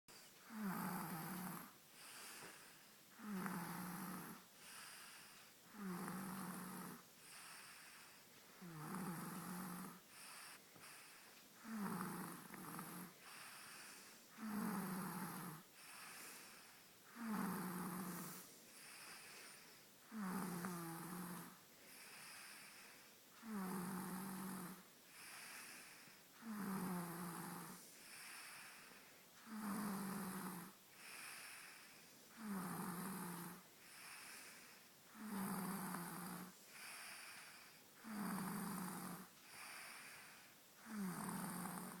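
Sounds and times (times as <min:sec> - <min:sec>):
man snoring: 0:00.4 - 0:42.0.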